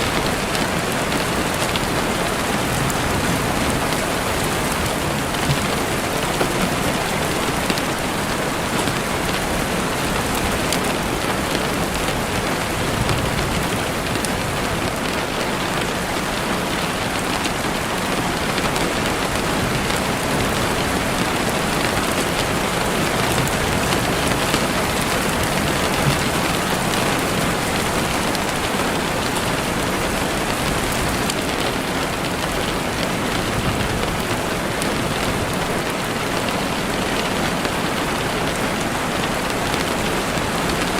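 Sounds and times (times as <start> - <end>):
heavy rain on a window: 0.0 - 40.9.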